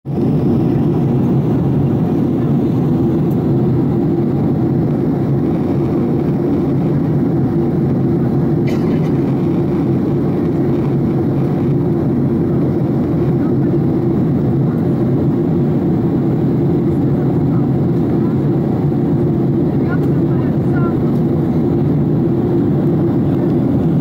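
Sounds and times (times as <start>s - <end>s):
jet engine roar in cabin: 0.1s - 24.0s.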